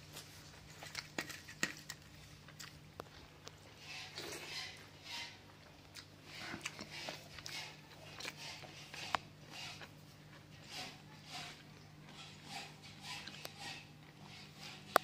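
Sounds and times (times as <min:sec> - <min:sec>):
chewing: 0:00.1 - 0:04.9, 0:05.5 - 0:15.0.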